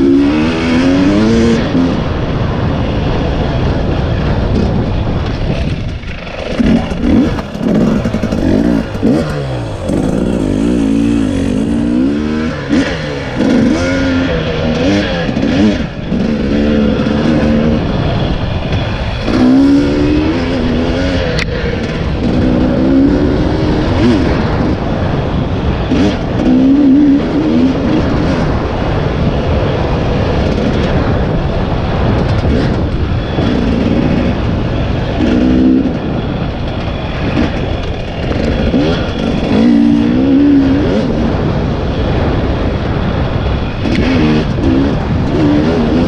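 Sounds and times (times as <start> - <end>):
dirt bike engine revving: 0.0 - 46.0
noisy background: 0.0 - 46.0.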